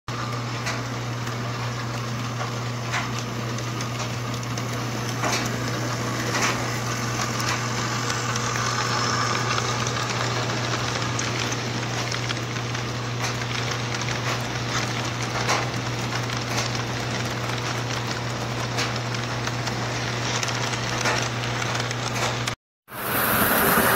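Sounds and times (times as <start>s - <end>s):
model train rolling on track: 0.2s - 23.9s
wheels clicking over rail joints: 0.3s - 22.6s.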